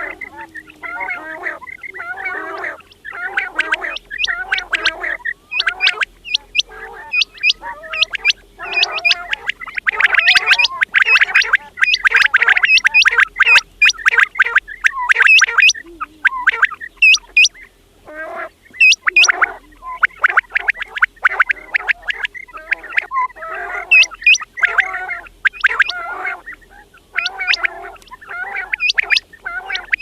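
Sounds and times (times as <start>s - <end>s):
low gurgling bird calls: 0.0s - 30.0s
quails calling: 0.0s - 30.0s
sharp high bird calls: 0.0s - 30.0s.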